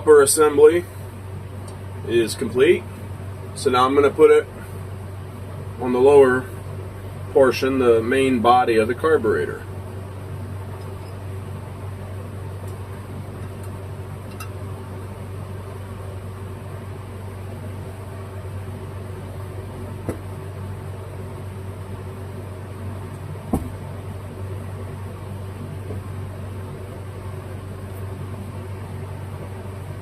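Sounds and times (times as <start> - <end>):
machine humming: 0.0 - 30.0.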